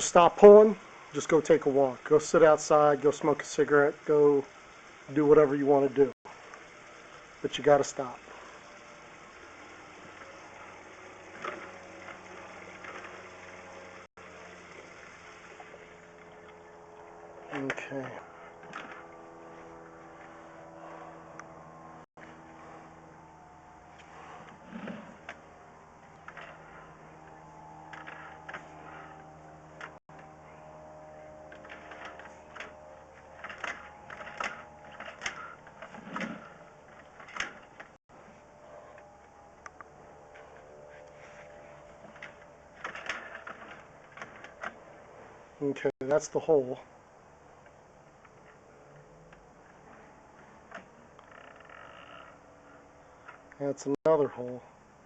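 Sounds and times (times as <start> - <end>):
faint hum: 0.0 - 55.0.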